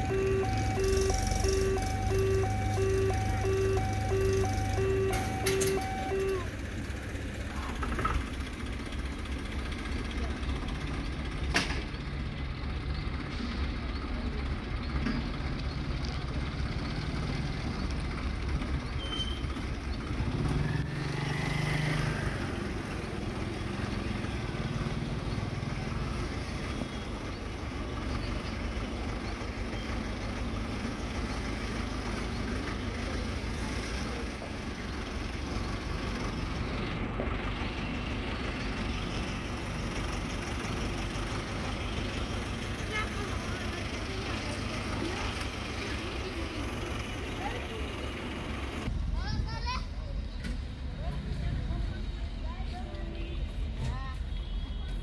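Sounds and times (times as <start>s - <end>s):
idling vehicle engines: 0.0s - 55.0s.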